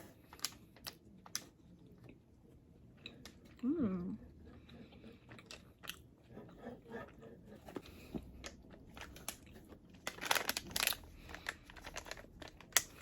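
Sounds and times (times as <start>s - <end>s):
person chewing candy: 0.0s - 13.0s.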